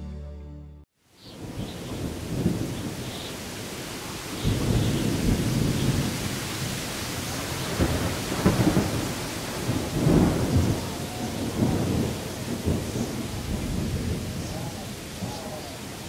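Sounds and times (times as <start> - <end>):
steady rain: 1.0 - 16.0
thunder rumbling: 1.4 - 16.0.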